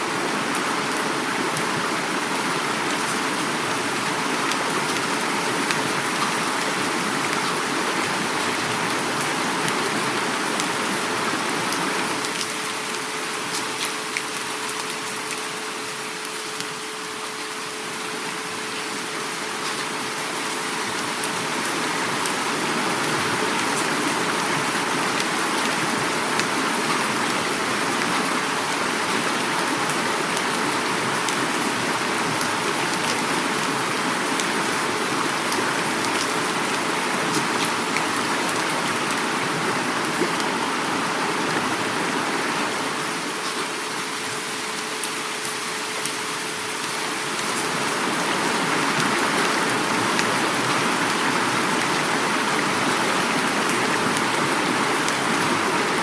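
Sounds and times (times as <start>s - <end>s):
heavy rain falling: 0.0s - 56.0s
river water flowing: 0.0s - 56.0s.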